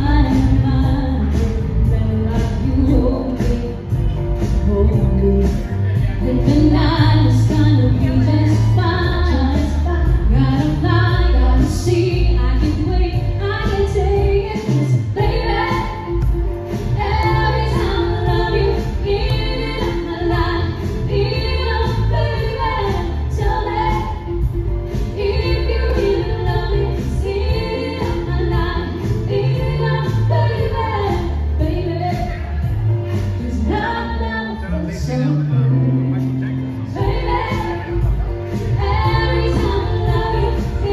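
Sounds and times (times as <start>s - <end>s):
backing music with heavy bass: 0.0s - 40.9s
two women singing a duet: 0.0s - 40.9s.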